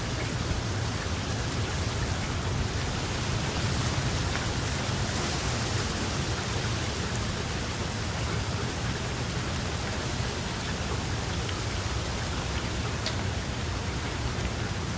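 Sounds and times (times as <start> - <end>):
steady rain hiss: 0.0 - 14.9.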